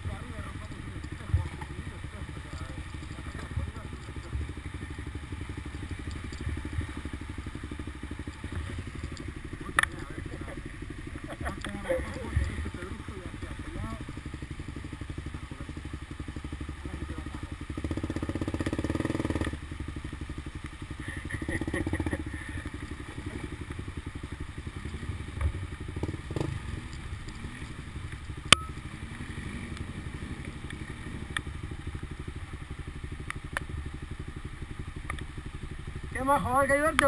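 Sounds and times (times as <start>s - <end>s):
off-road motorcycle engine revving: 0.0s - 37.0s.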